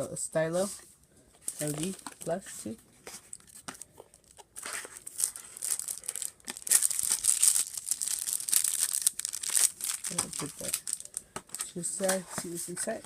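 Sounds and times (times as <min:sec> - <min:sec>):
packaging rustling: 0:01.5 - 0:02.4, 0:03.0 - 0:12.9.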